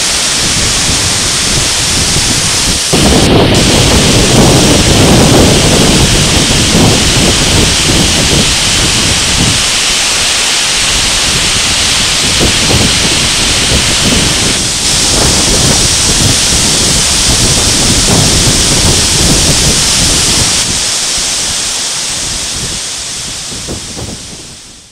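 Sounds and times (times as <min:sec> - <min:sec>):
waterfall rushing: 0:00.0 - 0:24.9
wind buffeting microphone: 0:00.0 - 0:24.9.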